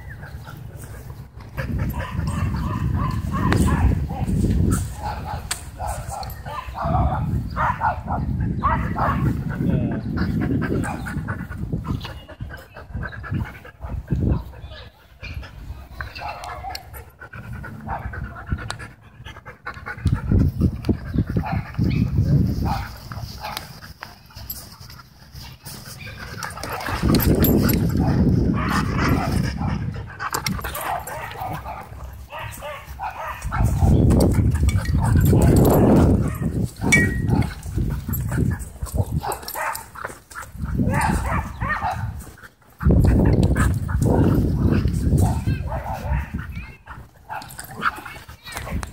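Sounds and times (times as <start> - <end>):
dogs panting hard: 0.0 - 6.4, 8.1 - 48.9.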